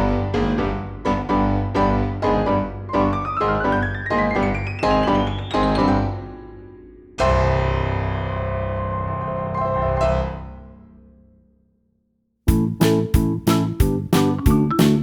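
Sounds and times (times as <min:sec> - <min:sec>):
piano chords: 0:00.0 - 0:11.2, 0:12.5 - 0:15.0.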